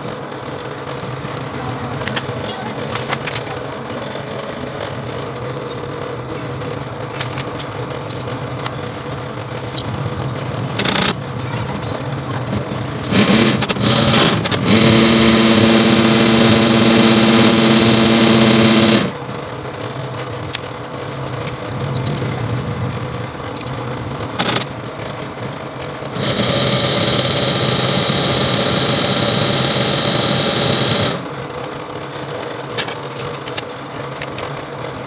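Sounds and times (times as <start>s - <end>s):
coil-winding machine whirring: 0.0s - 35.0s
steady whine: 0.0s - 35.0s.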